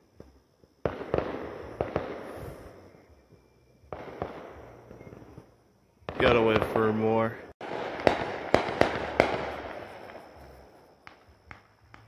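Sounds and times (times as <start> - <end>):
fireworks bangs and cracks: 0.2 - 2.8, 3.9 - 5.4, 6.1 - 12.0.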